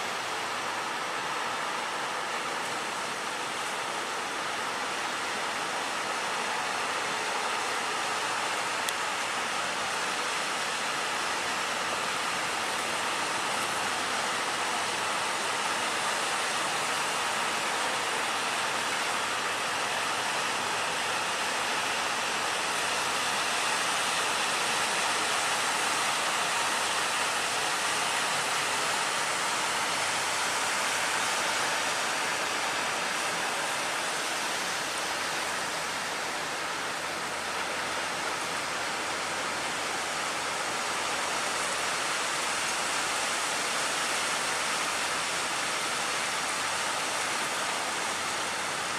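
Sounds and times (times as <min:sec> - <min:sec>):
wind: 0:00.0 - 0:48.9.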